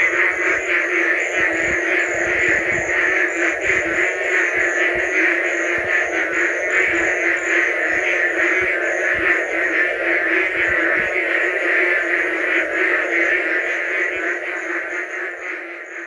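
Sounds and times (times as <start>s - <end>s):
frogs calling in chorus: 0.0s - 16.0s.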